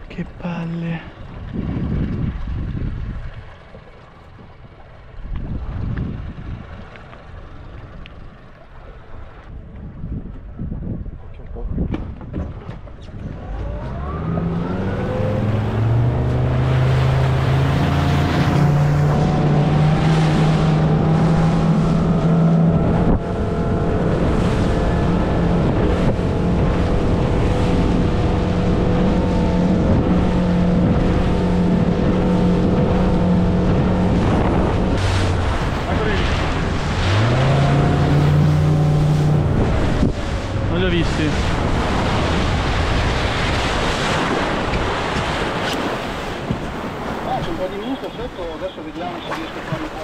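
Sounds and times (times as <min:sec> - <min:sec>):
motorboat engine: 0:00.0 - 0:50.0
rushing wind and water: 0:00.0 - 0:50.0.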